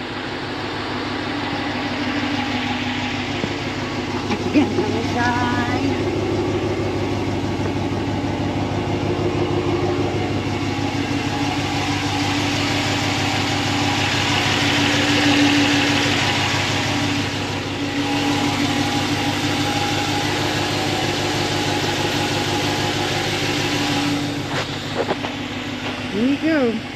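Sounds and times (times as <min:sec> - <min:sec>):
truck engine idling: 0:00.0 - 0:26.9.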